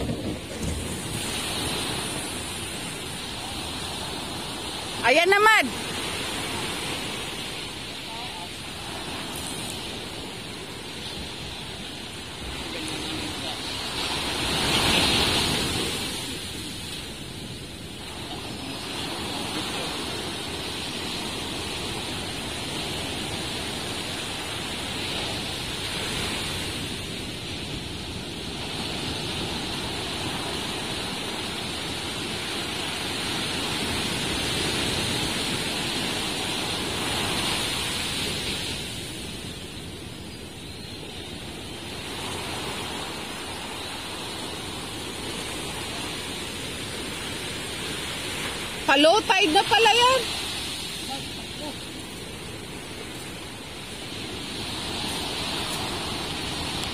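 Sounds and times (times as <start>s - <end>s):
sea surf washing ashore: 0.0s - 56.9s.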